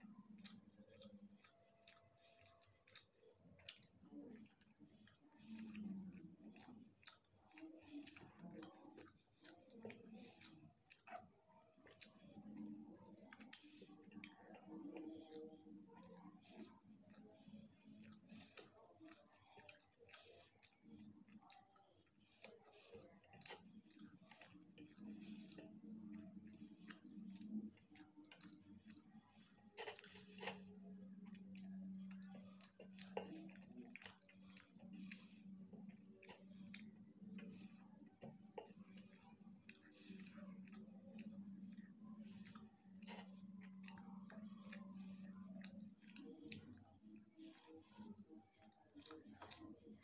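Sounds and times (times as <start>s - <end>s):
person chewing rice: 0.0s - 50.0s.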